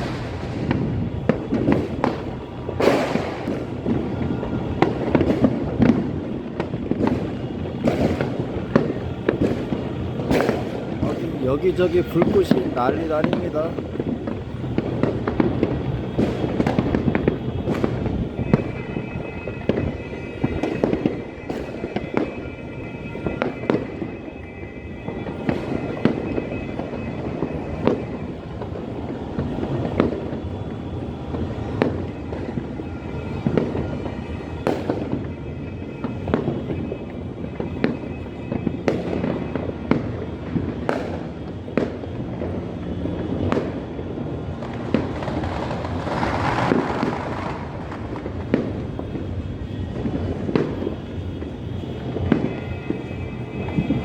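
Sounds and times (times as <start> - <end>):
fireworks and firecrackers banging: 0.0 - 54.0.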